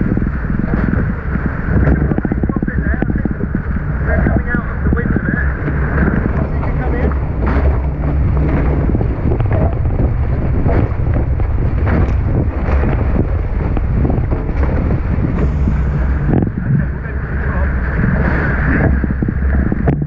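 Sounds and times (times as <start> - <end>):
water splashing against hulls: 0.0 - 20.0
wind buffeting microphone: 0.0 - 20.0.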